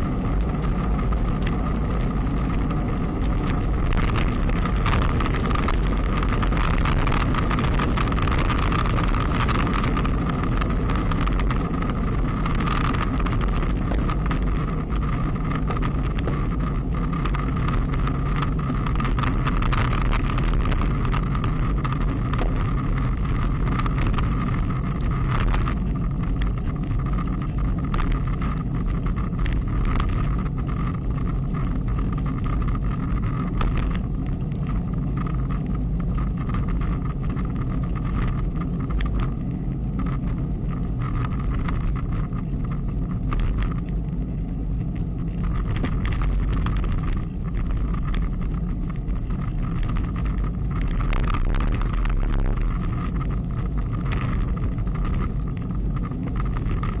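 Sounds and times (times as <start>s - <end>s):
tyre and road noise: 0.0s - 57.0s
wind buffeting microphone: 0.0s - 57.0s
short clicks and rattles: 2.5s - 57.0s.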